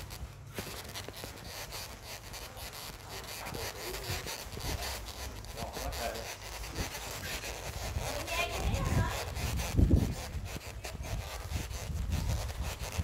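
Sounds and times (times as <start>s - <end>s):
camera handling rubs and knocks: 0.0s - 13.0s
faint voices: 0.8s - 12.8s.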